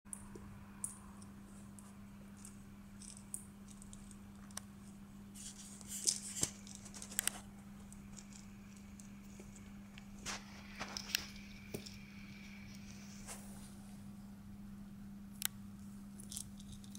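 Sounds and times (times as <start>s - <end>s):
steady low hum: 0.1s - 16.9s.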